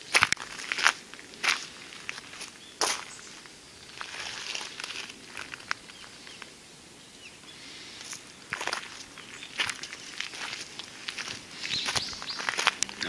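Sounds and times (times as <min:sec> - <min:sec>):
footsteps crunching on gravel: 0:00.0 - 0:06.6, 0:08.0 - 0:13.0.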